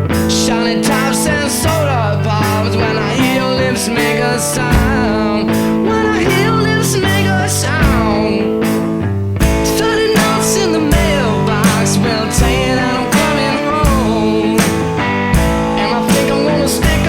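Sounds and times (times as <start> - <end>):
electric guitar: 0.0 - 17.0
person singing: 0.0 - 17.0
steady bass line: 0.0 - 17.0.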